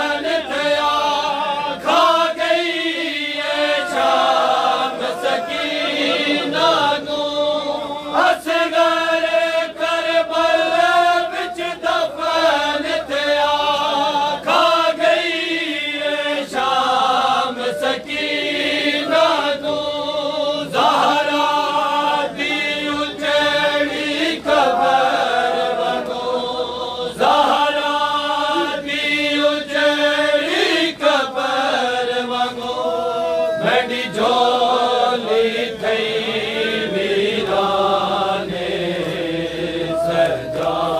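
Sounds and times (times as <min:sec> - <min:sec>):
men chanting a lament: 0:00.0 - 0:40.9.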